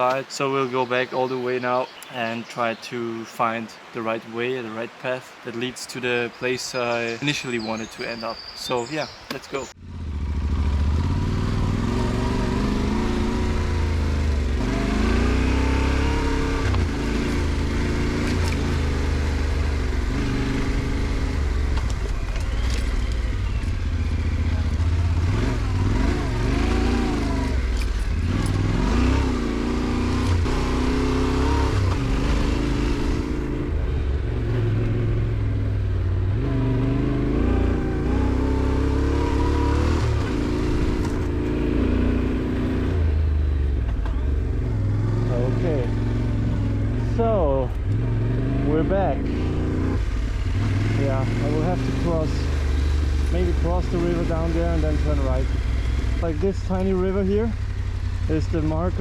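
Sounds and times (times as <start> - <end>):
motorcycle engine running: 9.8 - 59.0.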